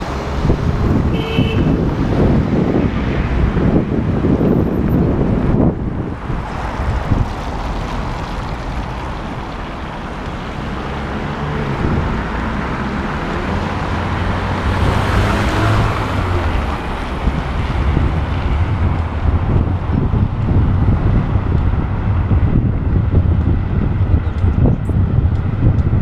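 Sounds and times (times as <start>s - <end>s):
street traffic: 0.0s - 26.0s
wind buffeting microphone: 0.0s - 26.0s.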